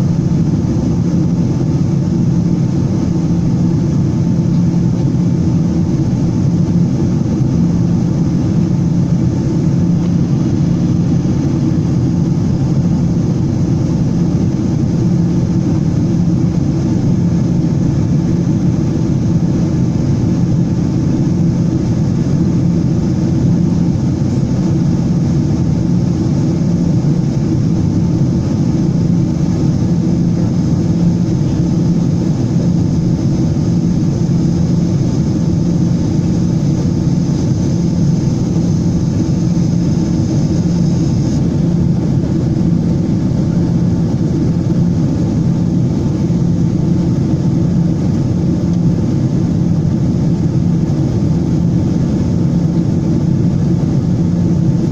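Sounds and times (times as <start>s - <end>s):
jet engine roar in cabin: 0.0s - 54.9s.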